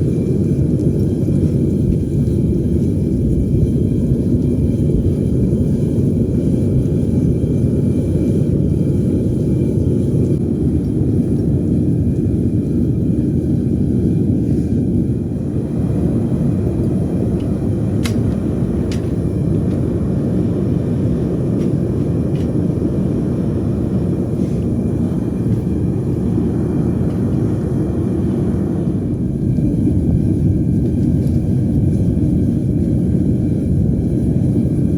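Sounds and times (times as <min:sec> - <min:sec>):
furnace burners roaring: 0:00.0 - 0:34.9.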